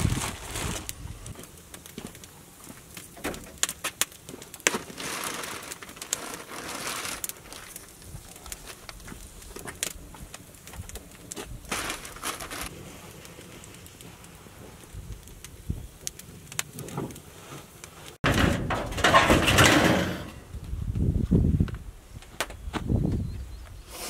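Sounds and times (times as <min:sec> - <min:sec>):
sharp popping of fire: 0:00.0 - 0:21.0
wood fire crackling: 0:00.0 - 0:22.7.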